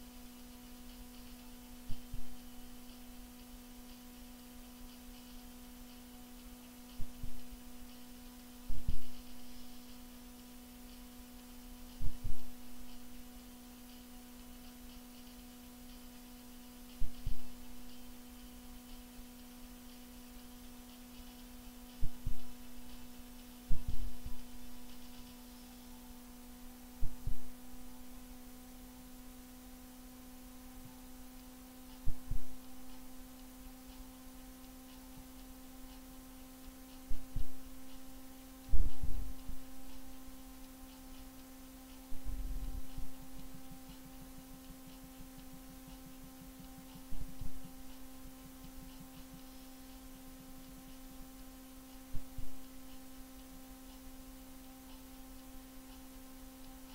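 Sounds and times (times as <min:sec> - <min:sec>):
steady electrical hum: 0:00.0 - 0:56.9.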